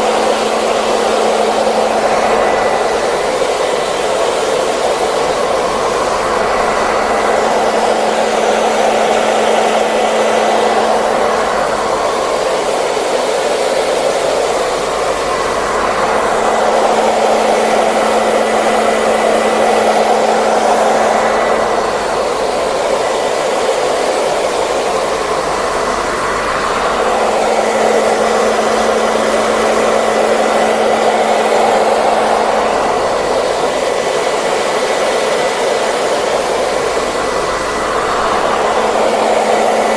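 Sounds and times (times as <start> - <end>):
faint motor hum: 0.0 - 39.9
hair dryer blowing air: 0.0 - 39.9.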